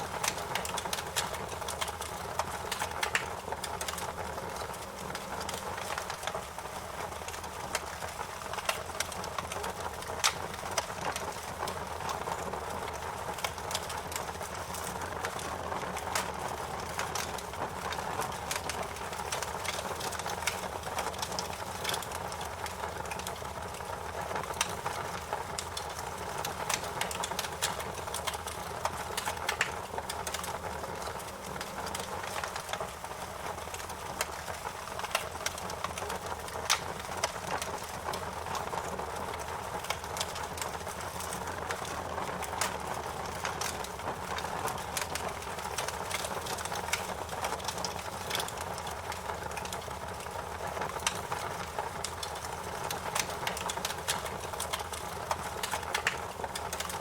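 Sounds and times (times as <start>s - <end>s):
burning wood crackling and popping: 0.0s - 57.0s.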